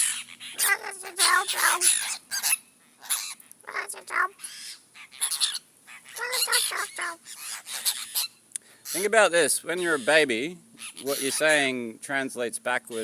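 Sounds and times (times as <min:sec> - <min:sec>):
birds giving harsh calls: 0:00.0 - 0:11.9, 0:12.8 - 0:13.0.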